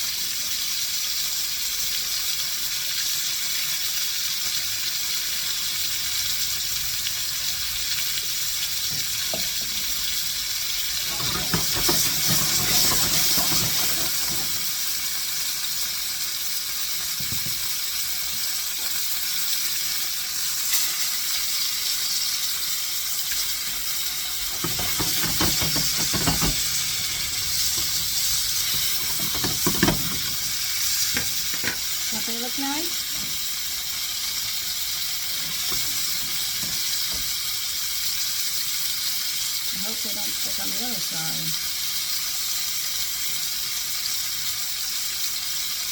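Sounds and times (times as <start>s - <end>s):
chicken sizzling in oil: 0.0s - 45.9s.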